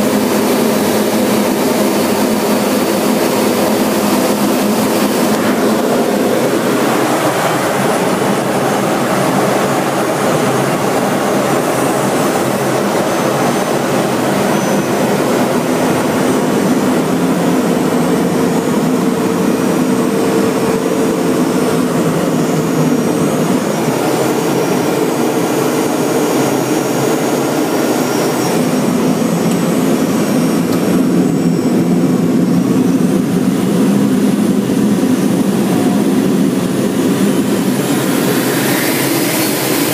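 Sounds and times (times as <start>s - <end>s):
jet engine drone: 0.0s - 39.9s
rushing airflow: 0.0s - 39.9s.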